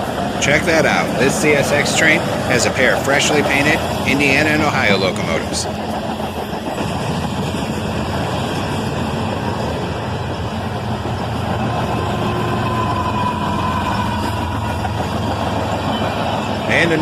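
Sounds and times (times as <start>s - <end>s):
diesel locomotive engines humming: 0.0s - 17.0s
wheels rumbling on rails: 0.0s - 17.0s.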